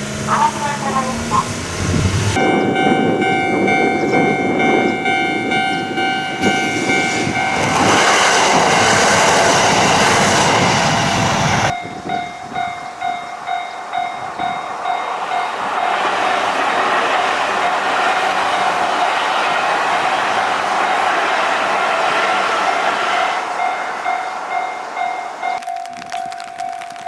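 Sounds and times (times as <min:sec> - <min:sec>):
railroad crossing bell ringing: 0:00.0 - 0:01.6, 0:02.3 - 0:19.7, 0:20.3 - 0:27.0
train rushing past: 0:00.0 - 0:25.9.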